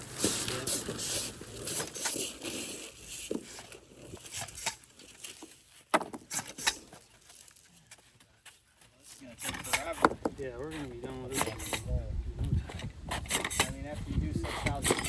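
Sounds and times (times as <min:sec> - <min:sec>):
tubing rustling and scraping: 0:00.0 - 0:15.0.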